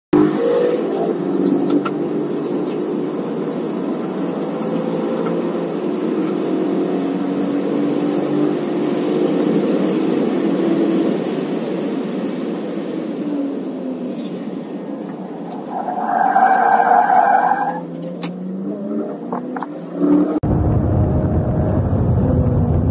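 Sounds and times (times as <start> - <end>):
car engine pulling hard: 0.2 - 22.9.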